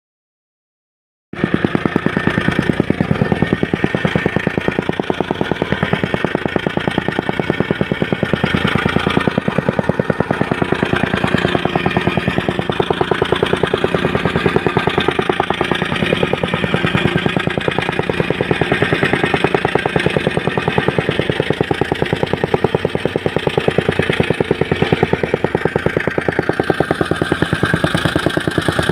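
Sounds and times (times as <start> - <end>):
construction machinery pounding: 1.4 - 28.9.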